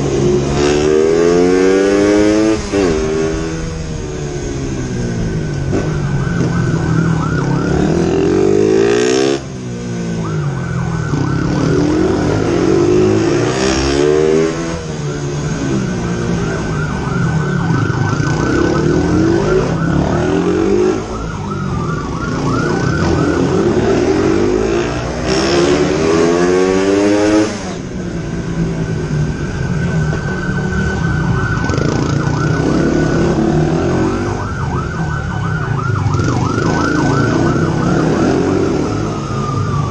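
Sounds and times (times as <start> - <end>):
motorcycle engine revving: 0.0 - 35.0, 35.7 - 39.9
police siren yelping: 0.2 - 39.9.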